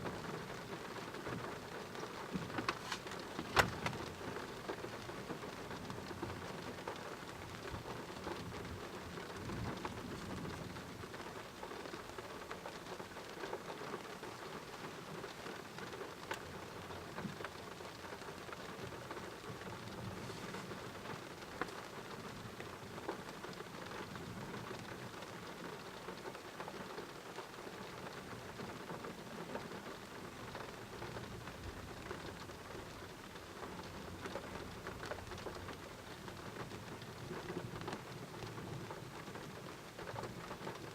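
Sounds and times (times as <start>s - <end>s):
heavy rain falling: 0.0s - 40.9s
sharp raindrops tapping: 0.0s - 40.9s.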